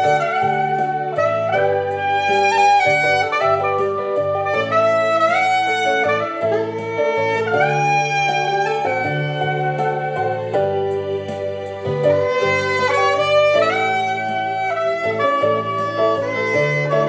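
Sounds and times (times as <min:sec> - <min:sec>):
backing track with low bass: 0:00.0 - 0:17.0
soprano saxophone melody: 0:00.0 - 0:17.0.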